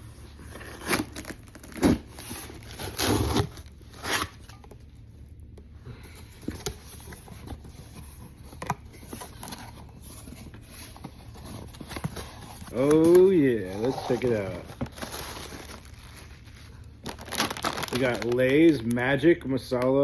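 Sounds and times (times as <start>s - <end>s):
packaging tearing and rustling: 0.2s - 4.8s, 6.4s - 19.0s.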